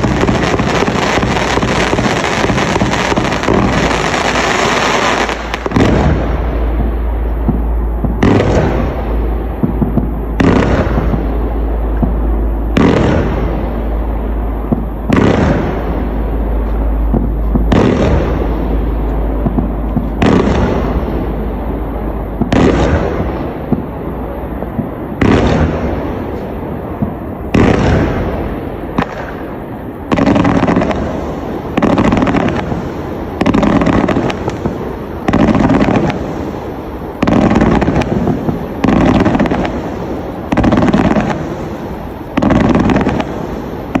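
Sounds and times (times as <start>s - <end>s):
fireworks blasts: 0.0s - 44.0s.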